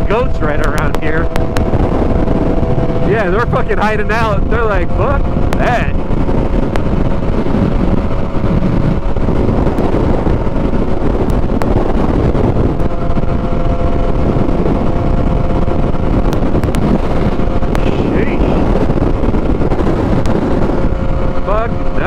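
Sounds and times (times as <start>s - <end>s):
motorcycle engine cruising: 0.0s - 22.0s
wind rushing over microphone: 0.0s - 22.0s.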